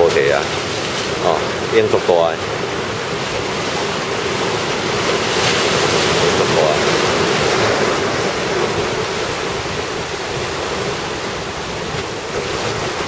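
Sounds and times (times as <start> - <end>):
heavy surf breaking: 0.0 - 13.0.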